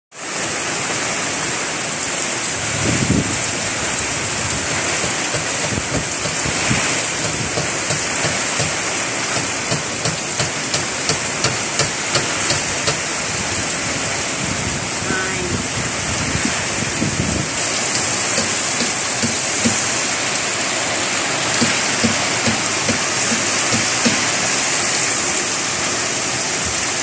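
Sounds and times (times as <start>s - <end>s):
heavy rain: 0.1s - 27.0s
gusting wind: 0.4s - 27.0s.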